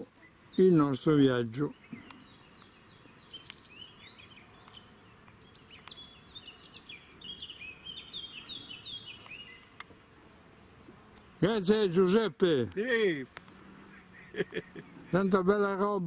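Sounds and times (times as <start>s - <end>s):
songbirds twittering: 0.0s - 10.2s, 11.0s - 16.0s.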